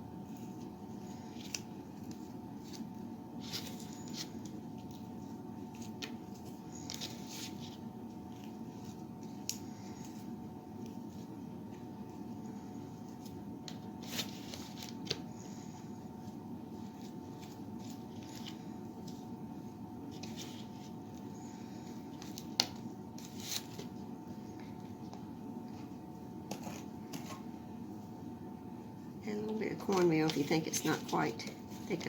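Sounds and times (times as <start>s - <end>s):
low background hum: 0.0s - 32.0s
soft scraping and squishing: 0.1s - 28.2s, 29.2s - 32.0s.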